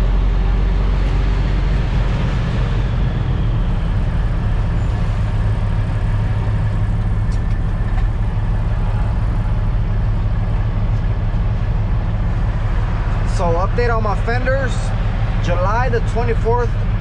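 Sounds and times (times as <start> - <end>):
diesel truck engine humming: 0.0 - 17.0.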